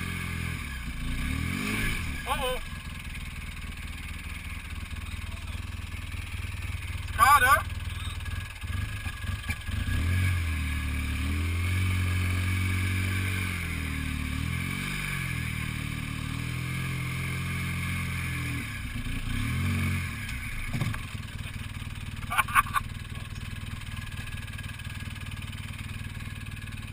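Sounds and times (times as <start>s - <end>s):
buggy engine pulling: 0.0s - 26.9s.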